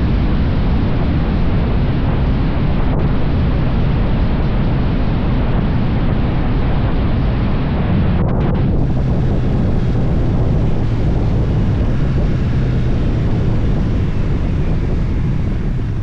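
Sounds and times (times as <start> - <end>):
motorcycle engine hum: 0.0 - 16.0
wind rush on microphone: 0.0 - 16.0.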